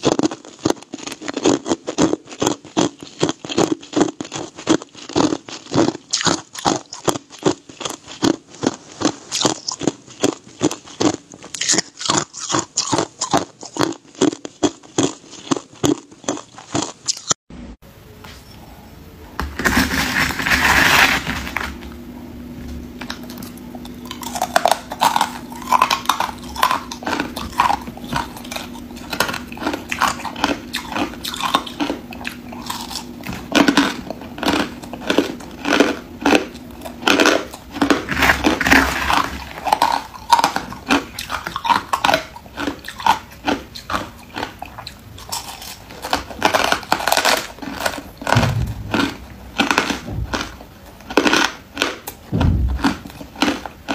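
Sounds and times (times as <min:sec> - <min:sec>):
crunching ice between teeth: 0:00.0 - 0:17.4, 0:23.1 - 0:53.9.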